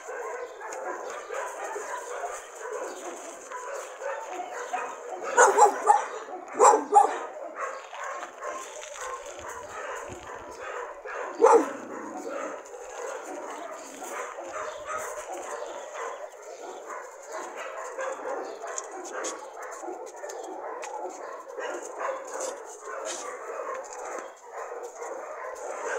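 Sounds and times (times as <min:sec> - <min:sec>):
dogs barking: 0:00.0 - 0:25.9.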